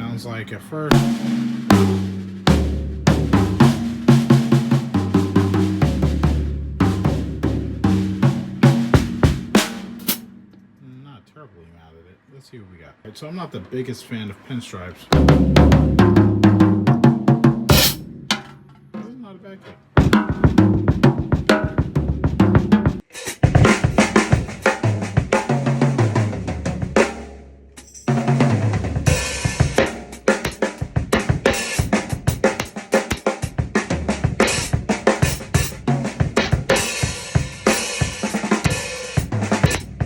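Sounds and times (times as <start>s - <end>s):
drum kit groove with tom fills: 0.0s - 10.5s, 15.1s - 19.3s, 20.0s - 40.0s.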